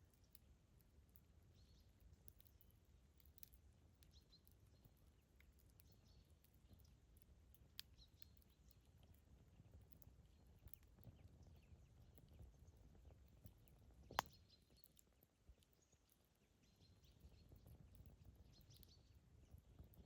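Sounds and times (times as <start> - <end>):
low rumble of flames: 0.0 - 20.0
soft fire crackles: 0.0 - 20.0.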